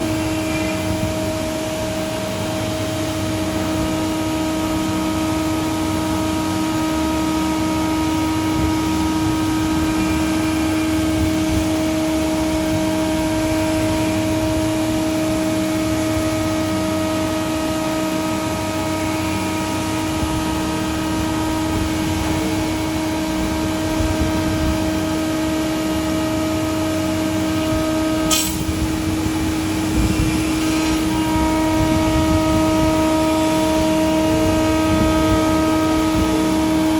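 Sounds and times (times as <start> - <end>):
cnc router cutting plastic: 0.0 - 36.9.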